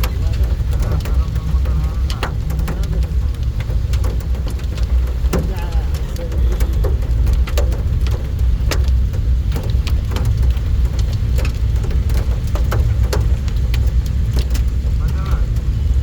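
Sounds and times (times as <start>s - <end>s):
heavy rain falling: 0.0s - 16.0s
sharp taps of raindrops: 0.0s - 16.0s.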